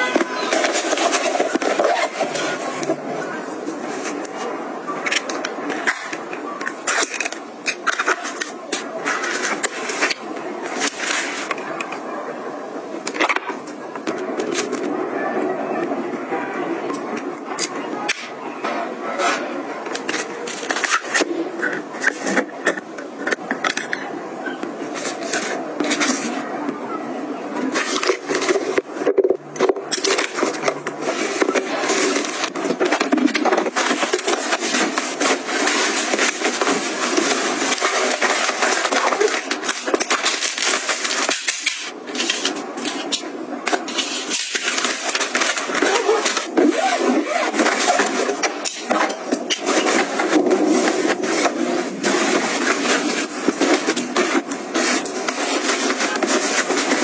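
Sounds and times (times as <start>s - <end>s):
fabric and plastic rustling: 0.0s - 15.2s, 16.6s - 26.7s, 27.5s - 57.0s.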